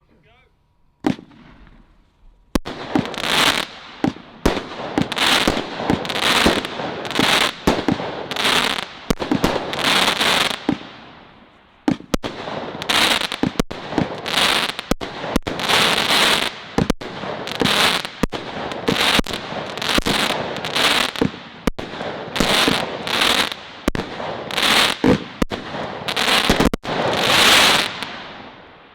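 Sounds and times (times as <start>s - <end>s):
firework crackling bursts: 1.0s - 28.9s.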